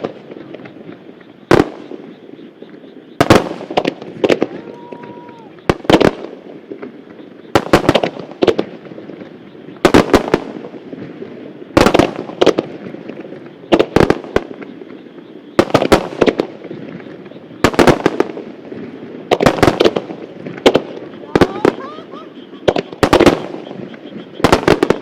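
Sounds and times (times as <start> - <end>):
fireworks bursting bangs: 0.0 - 25.0.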